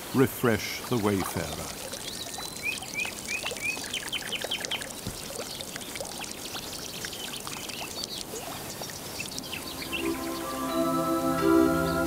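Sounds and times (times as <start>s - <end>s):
birds chirping: 0.0s - 12.0s
water pouring into fountain basin: 0.0s - 12.0s.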